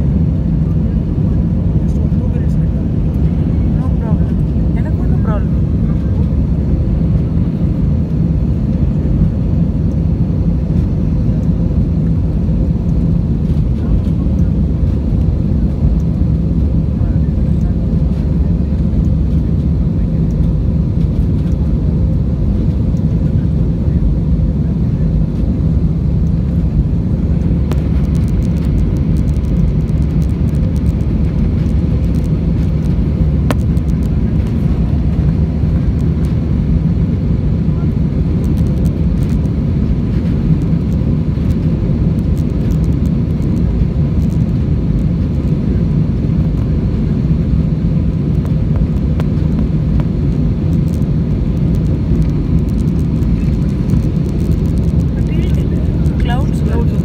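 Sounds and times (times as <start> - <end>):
faint hum: 0.0 - 57.0
jet cabin rumble: 0.0 - 57.0.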